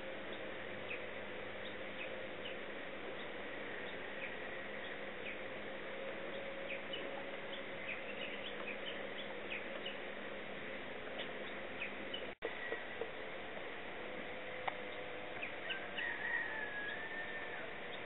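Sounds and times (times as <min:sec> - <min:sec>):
small birds chirping: 0:00.0 - 0:13.3, 0:14.7 - 0:18.0
steady outdoor hiss: 0:00.0 - 0:18.0.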